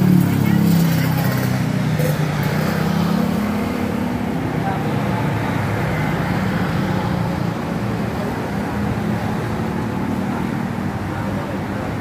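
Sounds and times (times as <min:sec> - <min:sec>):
road traffic drone: 0:00.0 - 0:12.0.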